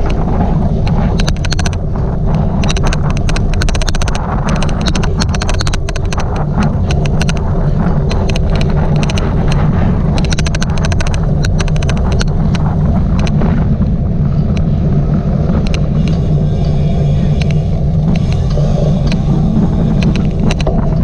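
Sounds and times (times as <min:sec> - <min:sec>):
rapid sharp clicks: 0:00.0 - 0:14.7, 0:15.5 - 0:16.5, 0:17.3 - 0:21.0
wind buffeting microphone: 0:00.0 - 0:21.0.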